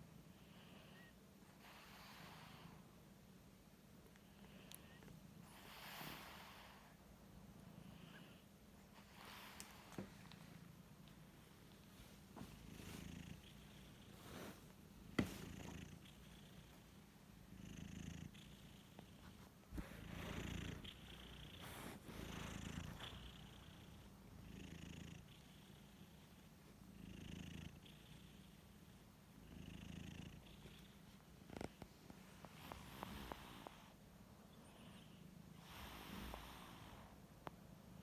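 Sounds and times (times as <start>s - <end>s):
cats snoring softly: 0.0s - 38.0s.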